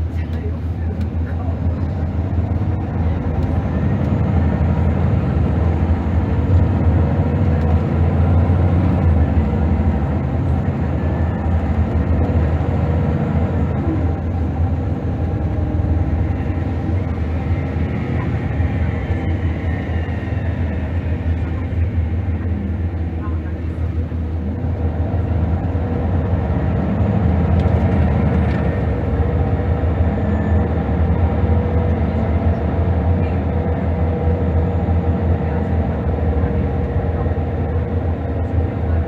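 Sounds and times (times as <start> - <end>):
bus diesel engine drone: 0.0 - 39.0
road noise: 0.0 - 39.0.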